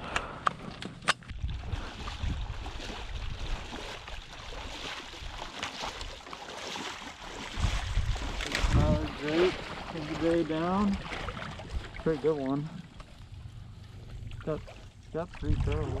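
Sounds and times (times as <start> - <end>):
water sloshing and splashing: 0.5 - 16.0
wind rumbling on microphone: 1.3 - 6.2, 7.2 - 16.0.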